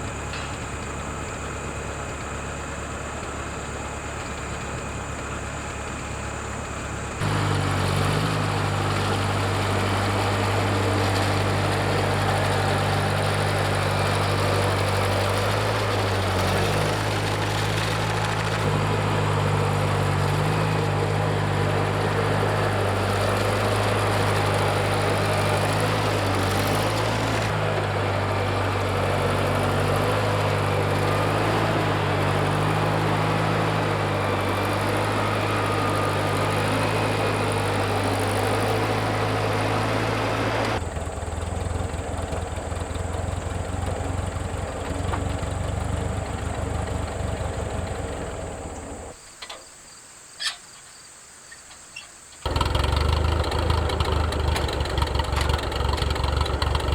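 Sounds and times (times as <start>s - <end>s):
tractor engine running: 0.0s - 49.6s, 51.7s - 56.9s.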